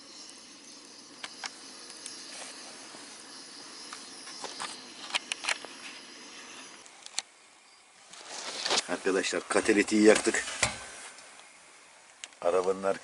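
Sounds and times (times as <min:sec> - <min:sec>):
campfire hissing: 0:00.0 - 0:13.0
fire crackles and pops: 0:00.0 - 0:13.0.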